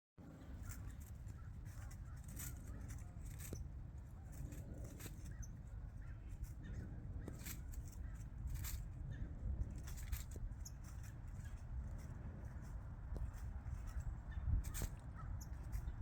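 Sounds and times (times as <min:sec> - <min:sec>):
steady low rumble: 0:00.2 - 0:16.0
bird calls and chirps: 0:00.3 - 0:16.0
sharp clicks and rustles: 0:00.4 - 0:05.5, 0:07.2 - 0:08.9, 0:09.5 - 0:16.0.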